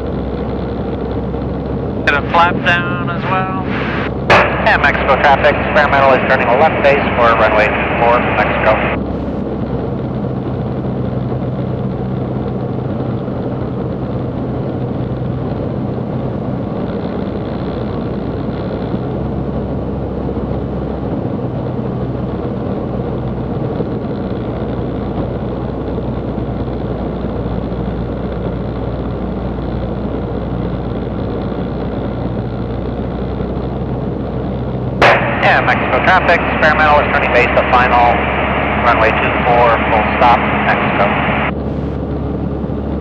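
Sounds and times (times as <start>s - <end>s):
aircraft engine and propeller droning: 0.0s - 31.1s, 31.7s - 43.0s.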